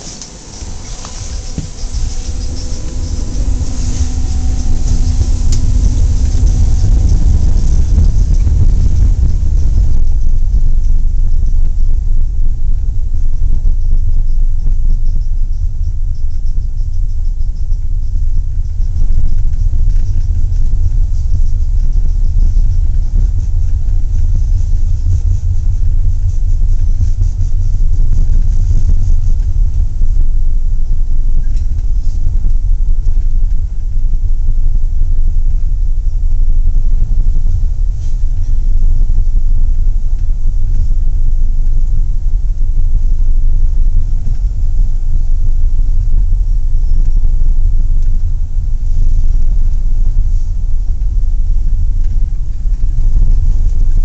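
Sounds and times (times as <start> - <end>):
monorail car rumbling: 0.0 - 54.0.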